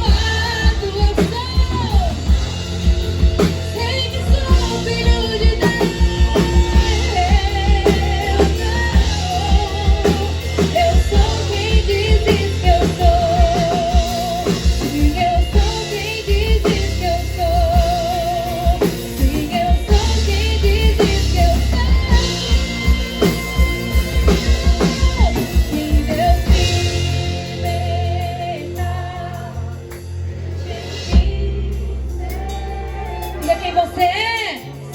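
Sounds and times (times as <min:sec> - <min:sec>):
drum kit and heavy bass: 0:00.0 - 0:34.9
woman singing with vibrato: 0:00.0 - 0:34.9.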